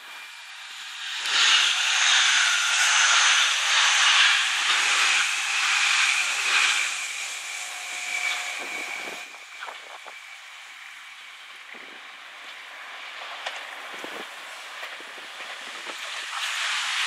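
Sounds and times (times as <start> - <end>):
electric train passing: 0.0 - 17.0
high whine: 0.0 - 17.0.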